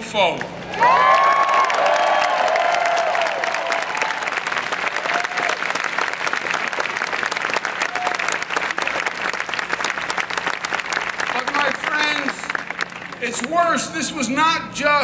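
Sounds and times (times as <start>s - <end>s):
large crowd applauding: 0.7s - 13.7s.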